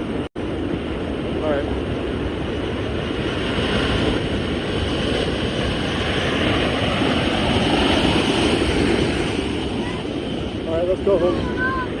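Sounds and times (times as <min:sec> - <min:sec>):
floodwater rushing with rumble: 0:00.0 - 0:12.0.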